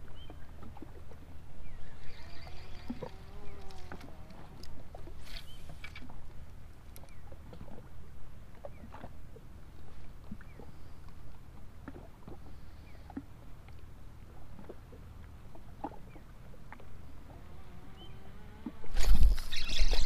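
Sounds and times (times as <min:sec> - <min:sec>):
small waves lapping hull: 0:00.0 - 0:20.0.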